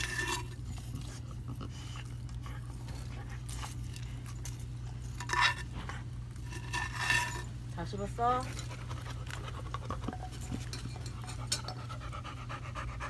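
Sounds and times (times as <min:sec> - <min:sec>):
dog chewing: 0:00.0 - 0:13.0.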